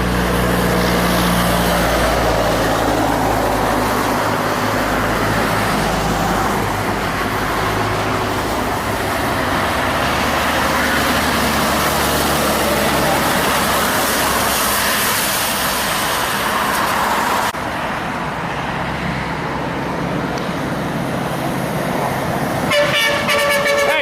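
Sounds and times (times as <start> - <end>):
heavy trucks passing on highway: 0.0 - 24.0.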